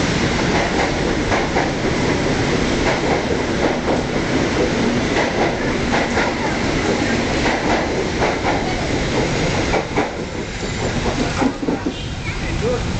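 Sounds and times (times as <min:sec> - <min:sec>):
rush of passing train: 0:00.0 - 0:12.9
train wheels clacking over rail joints: 0:00.2 - 0:12.1.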